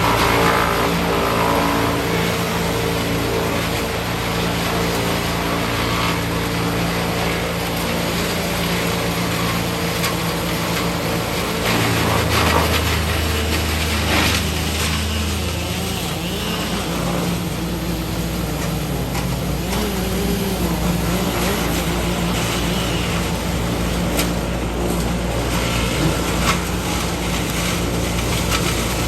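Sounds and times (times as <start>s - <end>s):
heavy machine engine droning: 0.0s - 29.0s.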